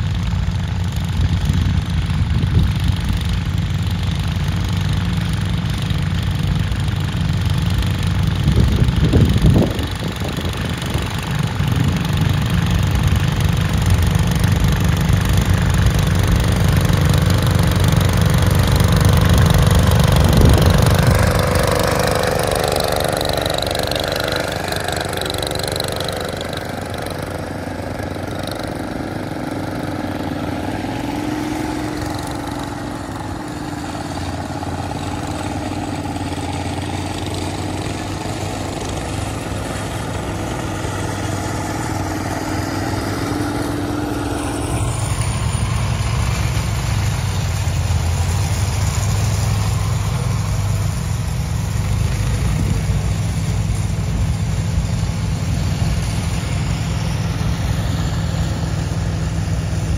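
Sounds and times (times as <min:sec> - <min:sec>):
garden tractor engine running: 0:00.0 - 0:59.9.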